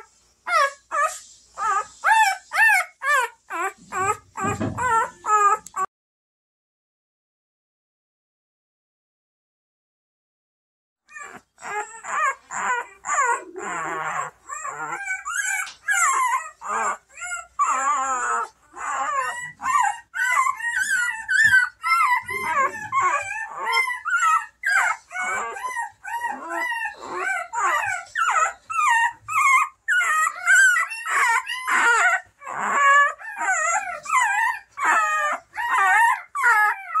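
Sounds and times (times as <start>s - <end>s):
puppy squealing and whimpering: 0.0s - 5.9s, 11.1s - 37.0s.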